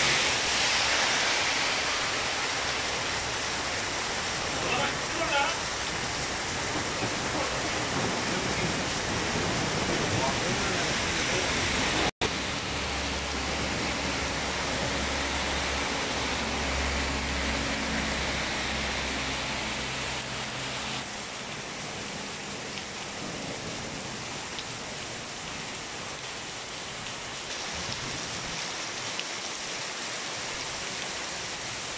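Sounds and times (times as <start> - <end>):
heavy rain on pavement: 0.0 - 31.9.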